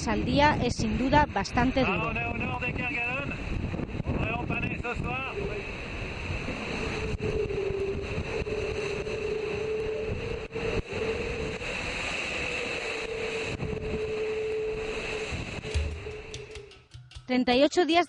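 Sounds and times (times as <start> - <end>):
rush of wind and water: 0.0 - 16.5
wavering hum from boat: 0.0 - 18.0.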